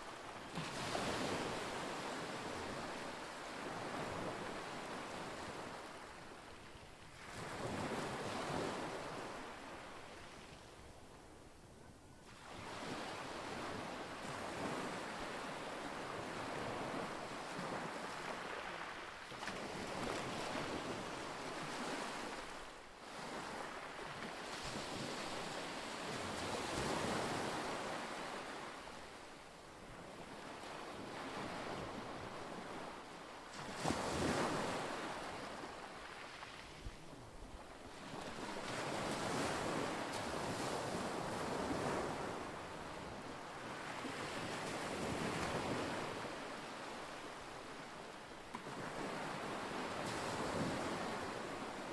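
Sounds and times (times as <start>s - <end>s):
wind: 0.0s - 51.9s.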